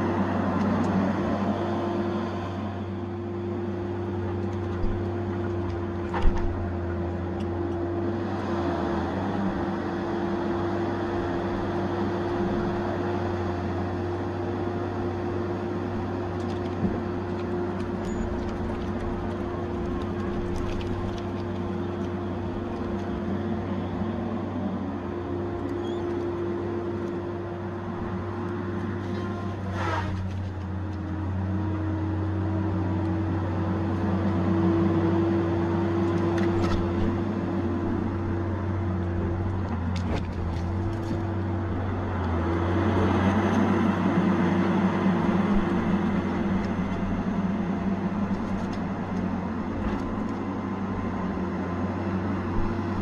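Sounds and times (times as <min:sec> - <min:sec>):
heavy machine engine drone: 0:00.0 - 0:53.0.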